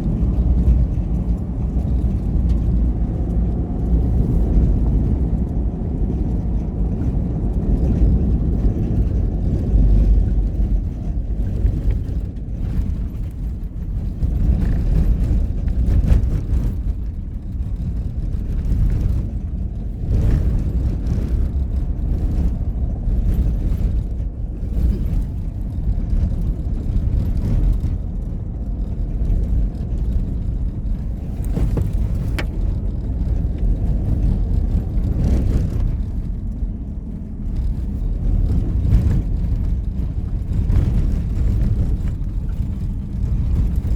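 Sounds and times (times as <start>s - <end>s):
vehicle low rumble: 0.0s - 43.9s.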